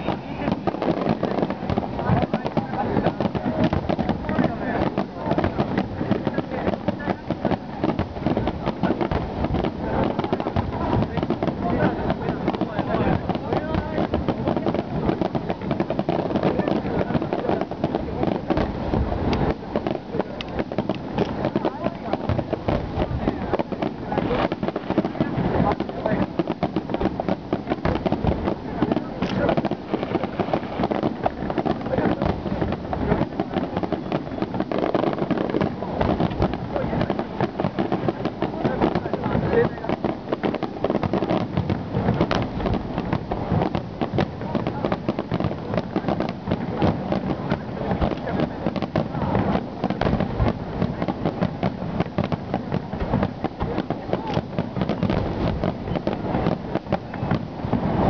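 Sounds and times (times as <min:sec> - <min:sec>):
continuous rumble: 0:00.0 - 0:58.0
firework bangs and crackles: 0:00.0 - 0:58.0.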